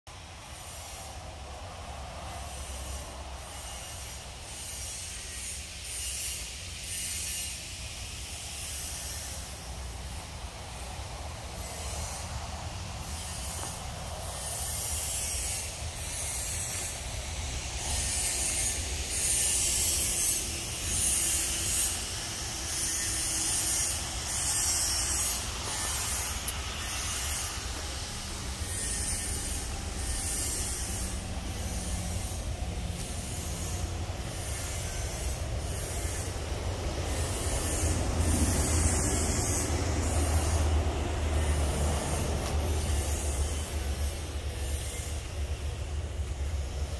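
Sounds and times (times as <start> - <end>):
steady high hiss: 0.1 - 46.9.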